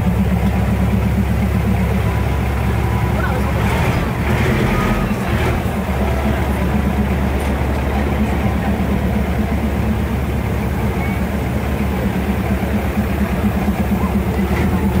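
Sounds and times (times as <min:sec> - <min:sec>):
diesel railcar engine droning: 0:00.0 - 0:15.0.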